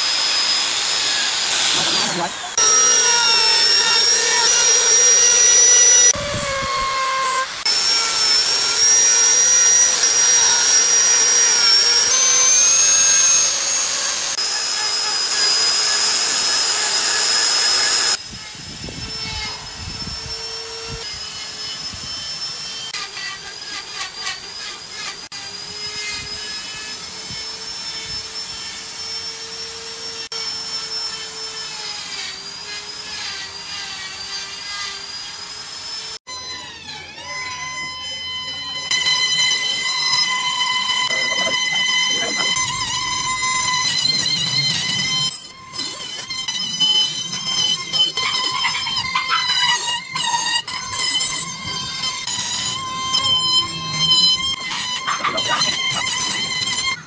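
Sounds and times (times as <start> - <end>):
electric grinder sanding wood: 0.0 - 57.0.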